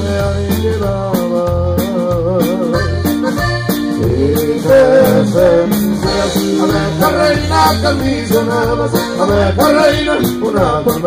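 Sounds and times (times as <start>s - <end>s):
accordion melody: 0.0s - 11.0s
bass: 0.0s - 11.0s
drum kit beat: 0.0s - 11.0s
guitar: 0.0s - 11.0s.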